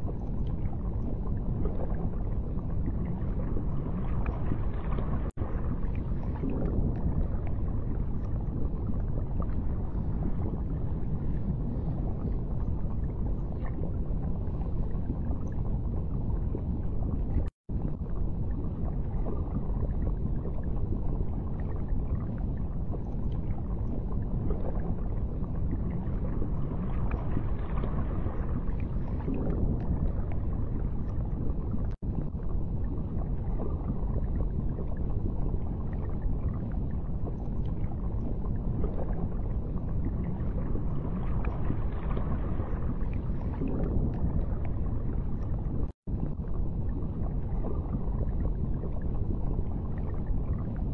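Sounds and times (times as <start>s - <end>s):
underwater rumbling wash: 0.0s - 50.9s.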